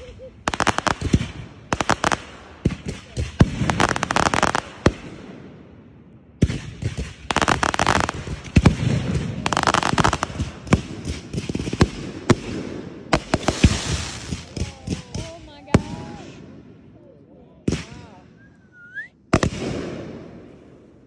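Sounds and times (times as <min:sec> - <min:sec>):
fireworks crackling: 0:00.0 - 0:05.6, 0:06.4 - 0:20.9
fireworks bangs: 0:00.0 - 0:05.8, 0:06.4 - 0:17.0, 0:17.6 - 0:18.4, 0:19.3 - 0:21.0.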